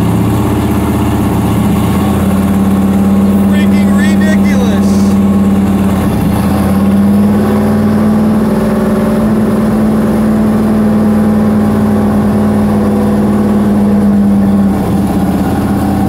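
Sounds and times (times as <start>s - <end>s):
engine on launch limiter: 0.0s - 16.0s.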